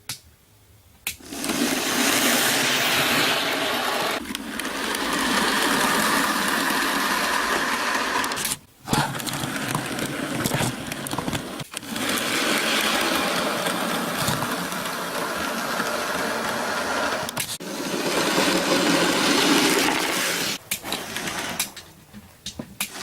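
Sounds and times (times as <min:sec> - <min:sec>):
electric motor whir: 0:01.2 - 0:20.6
model train wheel rattle: 0:01.2 - 0:21.8.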